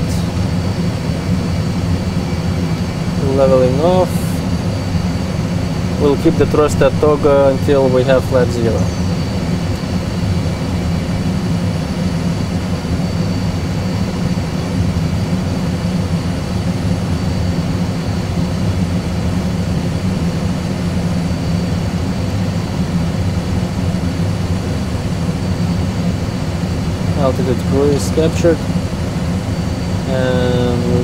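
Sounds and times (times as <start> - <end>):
engine and airflow rumble: 0.0 - 31.0
faint high whine: 0.0 - 31.0.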